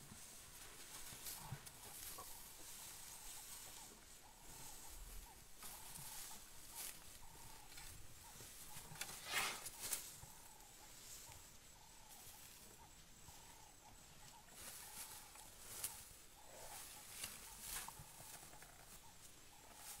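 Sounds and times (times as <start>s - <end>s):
elephant calf moving in dry grass: 0.0s - 20.0s.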